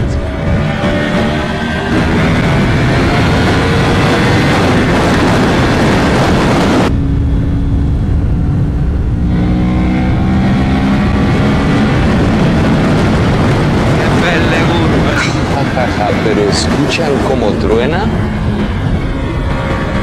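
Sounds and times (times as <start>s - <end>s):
motorcycle engine at high revs: 0.0s - 7.3s, 9.1s - 20.0s.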